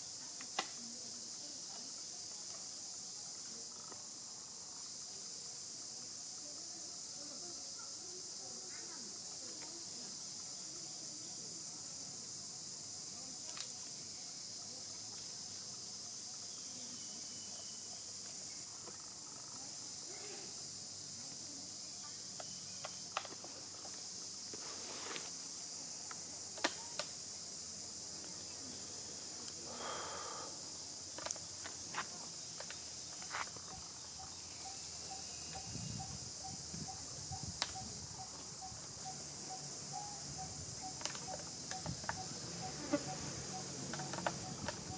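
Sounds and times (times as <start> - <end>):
insect chorus droning: 0.0 - 44.9.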